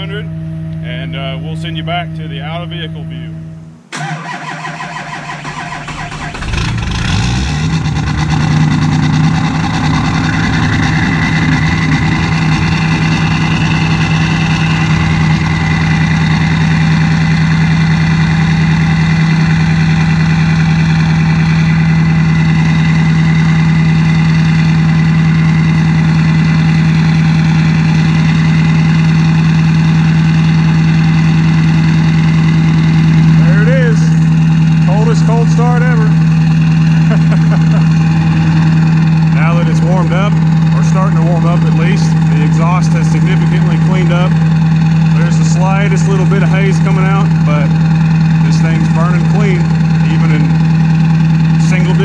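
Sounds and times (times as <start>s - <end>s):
diesel engine starting and idling: 0.0s - 52.0s.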